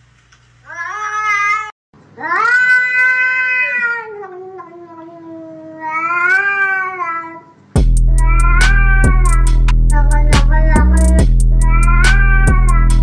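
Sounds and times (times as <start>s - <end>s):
cat meowing: 0.7s - 7.5s, 8.2s - 11.0s, 11.6s - 13.0s.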